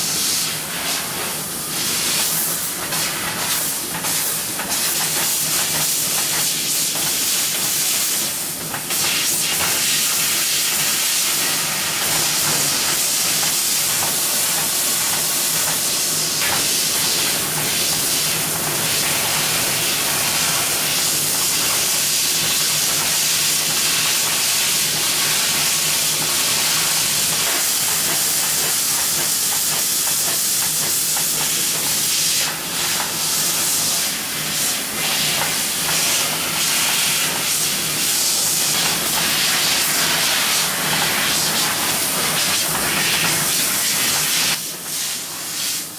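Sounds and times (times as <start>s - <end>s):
laser cutter gas hiss: 0.0s - 45.9s.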